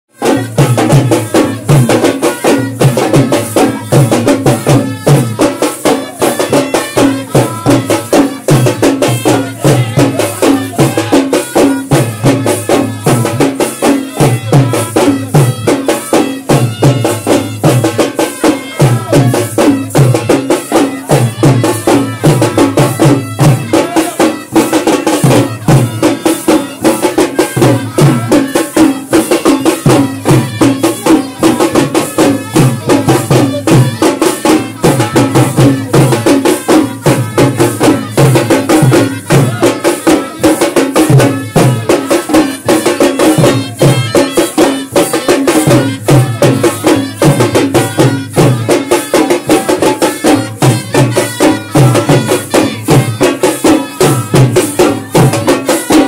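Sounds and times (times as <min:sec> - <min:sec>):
fast drum beat: 0:00.1 - 0:56.0
trumpets playing a tune: 0:00.2 - 0:56.0.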